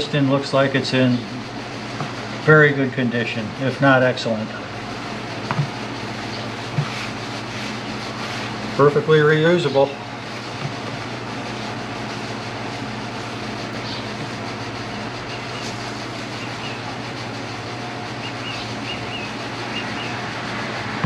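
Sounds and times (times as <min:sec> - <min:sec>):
machine hum with hiss: 0:00.0 - 0:21.0.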